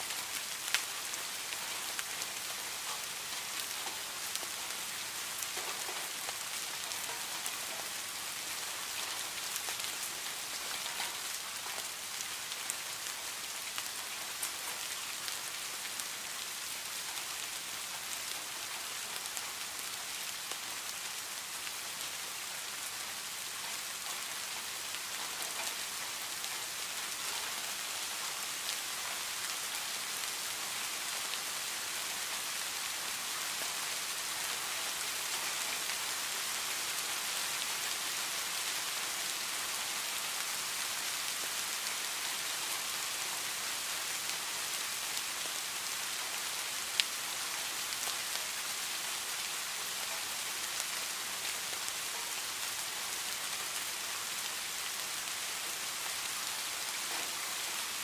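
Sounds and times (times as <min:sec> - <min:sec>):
rain on foliage: 0:00.0 - 0:58.0.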